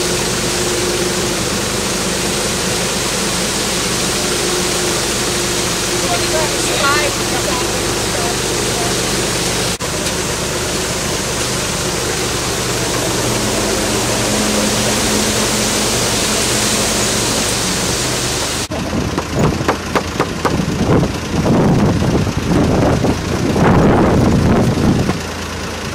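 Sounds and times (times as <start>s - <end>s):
loud rushing hiss: 0.0s - 21.3s
truck engine running: 0.0s - 25.9s.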